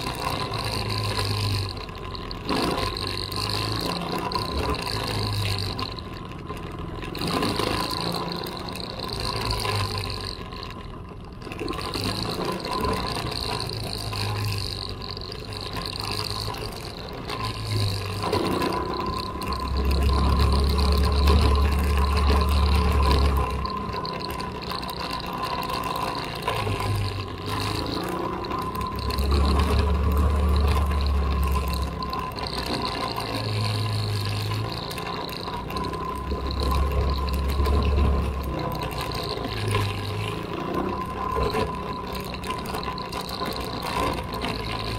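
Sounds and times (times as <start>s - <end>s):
off-road vehicle engine running: 0.0s - 44.9s.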